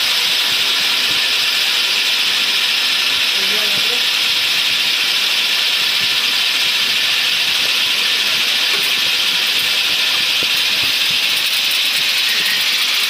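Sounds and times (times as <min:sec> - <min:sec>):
lathe machine running: 0:00.0 - 0:13.0
lathe tool cutting metal hiss: 0:00.0 - 0:13.0.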